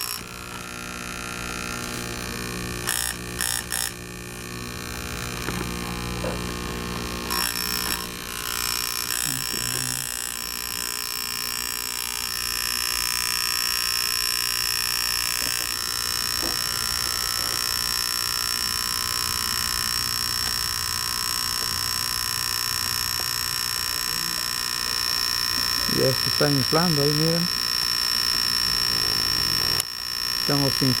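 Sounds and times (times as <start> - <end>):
electric air pump whining: 0.0 - 31.0.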